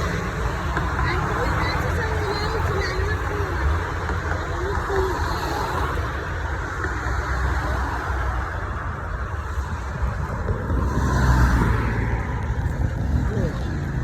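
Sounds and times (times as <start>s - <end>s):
cars passing on street: 0.0s - 14.0s.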